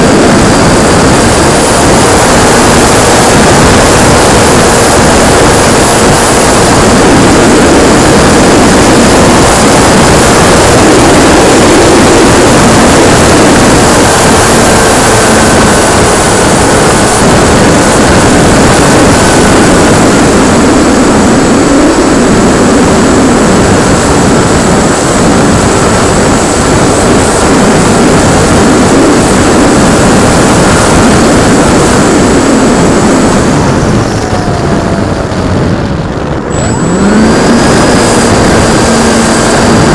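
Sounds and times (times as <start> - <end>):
model aircraft propeller noise: 0.0 - 39.9
wind rushing: 0.0 - 39.9.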